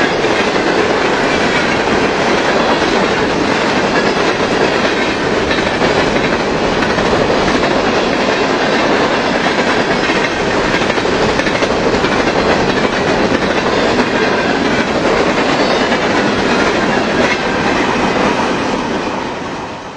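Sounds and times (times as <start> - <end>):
freight train passing: 0.0 - 19.9.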